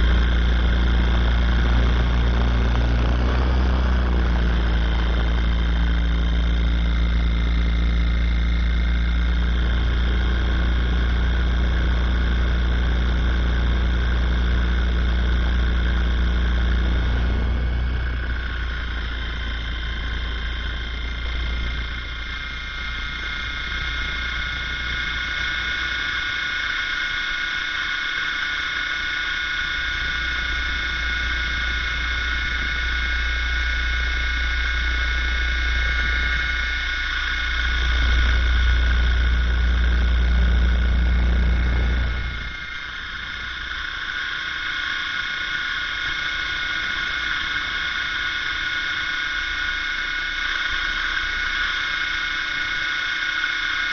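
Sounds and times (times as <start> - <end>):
helicopter low hum: 0.0 - 53.9
high whining tones: 0.0 - 53.9
noisy haze: 0.0 - 53.9.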